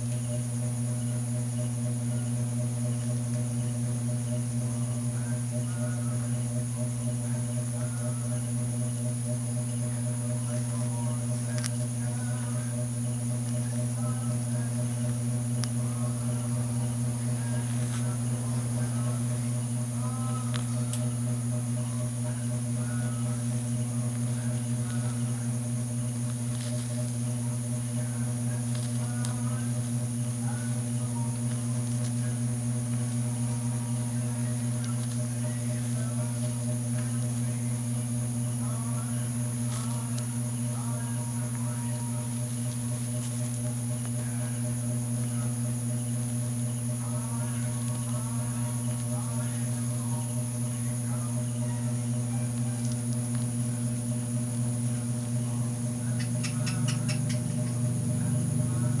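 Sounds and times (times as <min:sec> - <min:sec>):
faint high-pitched whine: 0:00.0 - 0:59.0
low electrical hum: 0:00.0 - 0:59.0.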